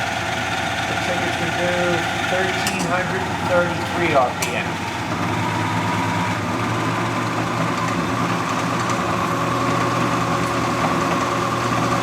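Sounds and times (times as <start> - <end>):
drill press motor humming and whining: 0.0 - 12.0.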